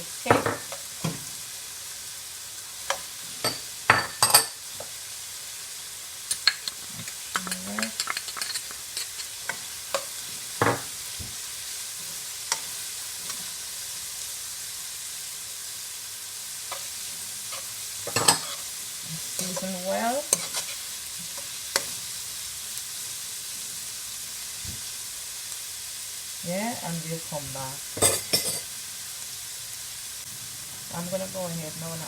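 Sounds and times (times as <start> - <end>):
vegetables sizzling in a wok: 0.0 - 32.0.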